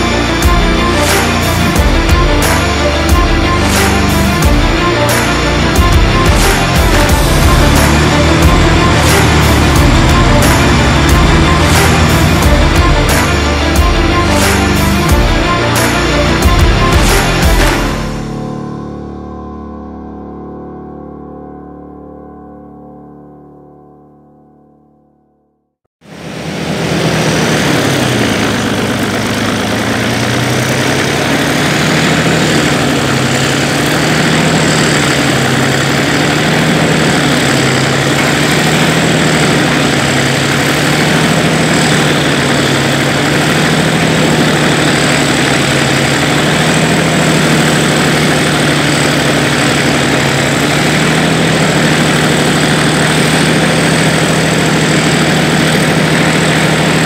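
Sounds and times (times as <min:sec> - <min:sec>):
diesel engine idling: 0:00.0 - 0:21.0, 0:26.0 - 0:57.0.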